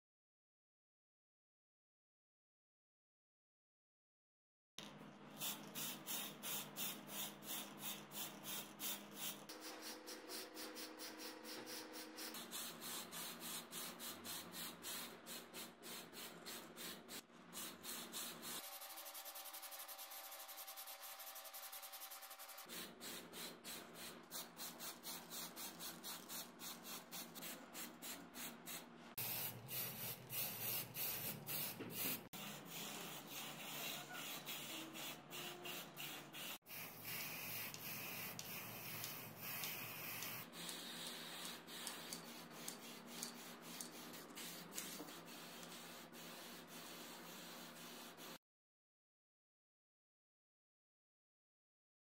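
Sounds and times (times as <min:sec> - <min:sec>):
spray paint can hissing: 0:05.4 - 0:48.4.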